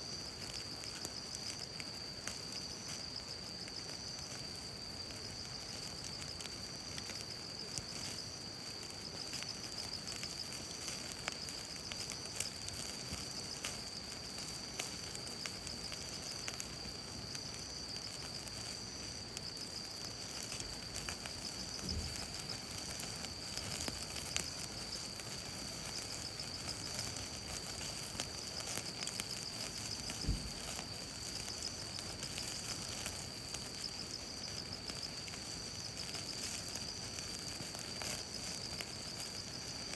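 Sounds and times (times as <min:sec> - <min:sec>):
campfire crackling and popping: 0:00.0 - 0:39.9
high-pitched insect trill: 0:00.0 - 0:39.9.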